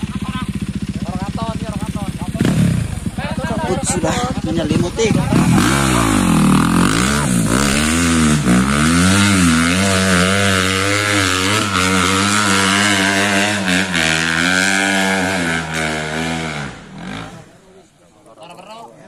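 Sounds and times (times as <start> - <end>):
dirt bike engine revving: 0.0 - 17.7.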